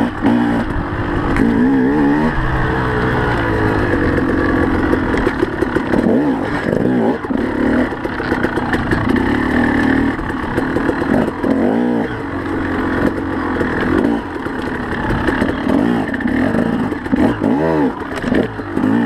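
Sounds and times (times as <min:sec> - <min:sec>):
dirt bike engine revving: 0:00.0 - 0:19.0
bike clattering over rough ground: 0:03.2 - 0:19.0.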